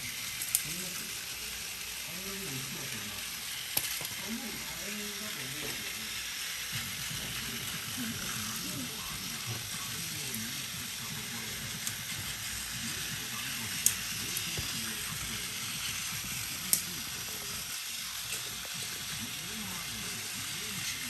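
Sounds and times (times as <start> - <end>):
toy train whirring on track: 0.0 - 21.0.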